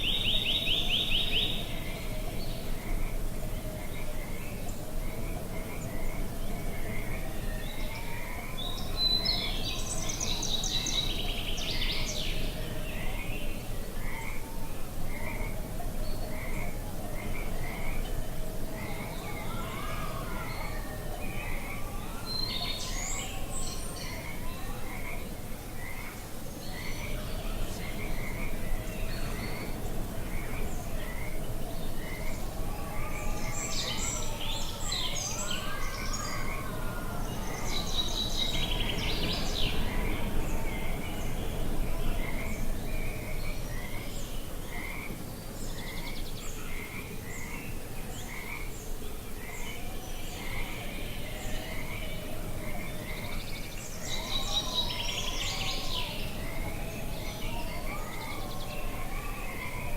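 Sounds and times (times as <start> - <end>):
low wind-like rumble: 0.0 - 59.9.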